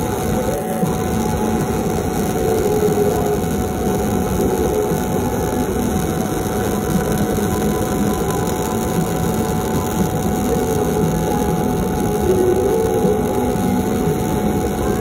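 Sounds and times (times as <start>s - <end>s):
welding arc crackling buzz: 0.0s - 15.0s.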